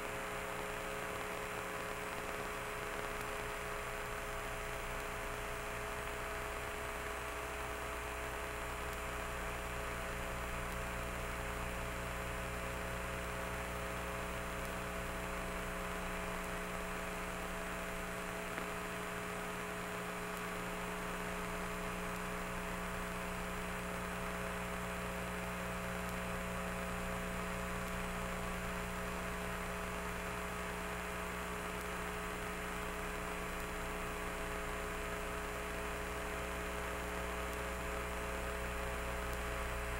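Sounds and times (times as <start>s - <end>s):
electrical hum and hiss: 0.0s - 39.9s.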